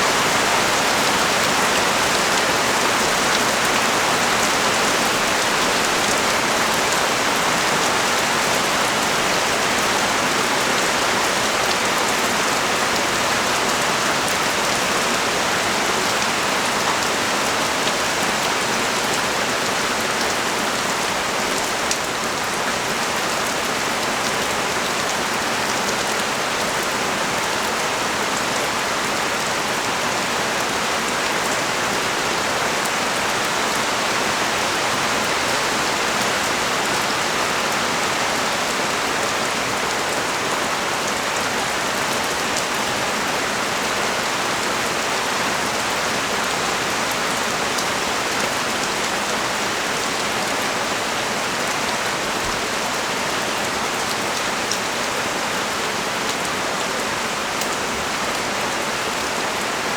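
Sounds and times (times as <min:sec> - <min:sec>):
heavy rain pouring onto street: 0:00.0 - 0:59.9.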